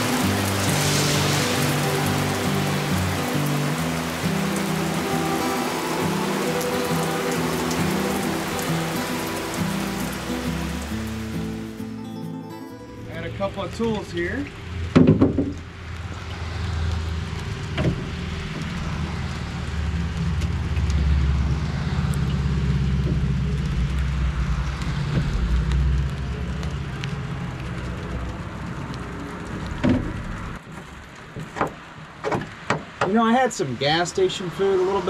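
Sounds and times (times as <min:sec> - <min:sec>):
vehicle engine humming: 0:00.0 - 0:12.1, 0:12.8 - 0:31.2
rain hiss: 0:00.0 - 0:32.2, 0:33.1 - 0:35.0.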